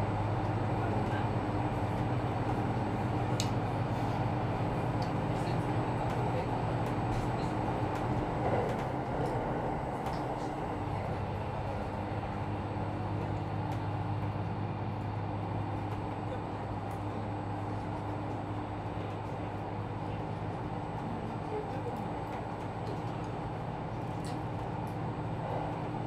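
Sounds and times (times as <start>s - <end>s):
railcar running rumble: 0.0s - 26.0s.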